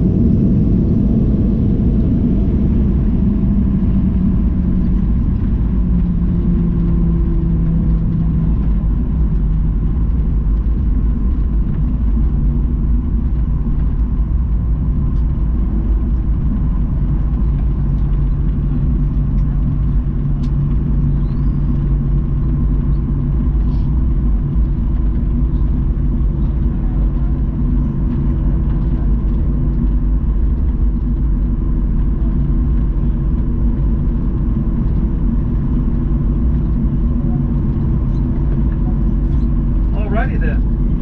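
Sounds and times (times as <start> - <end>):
airplane cabin rumble: 0.0 - 41.0
steady hum tones: 0.0 - 41.0.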